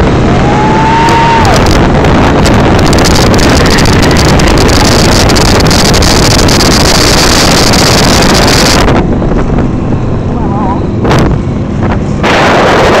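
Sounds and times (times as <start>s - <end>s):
motorcycle engine: 0.0s - 13.0s
wind rushing over microphone: 0.0s - 13.0s.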